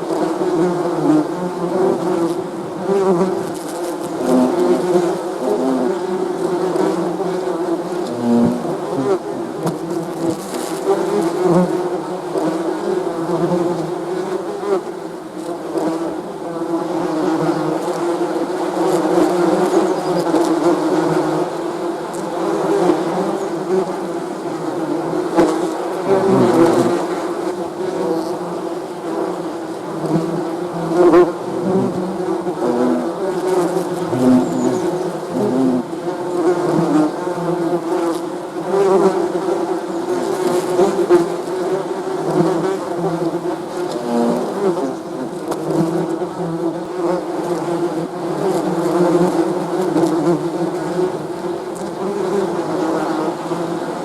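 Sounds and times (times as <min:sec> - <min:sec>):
bees buzzing: 0:00.1 - 0:54.0.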